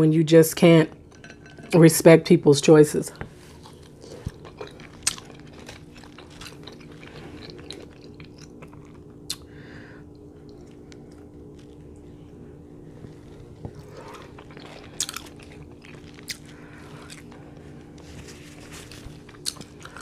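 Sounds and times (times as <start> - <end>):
person chewing food: 3.2 - 20.0.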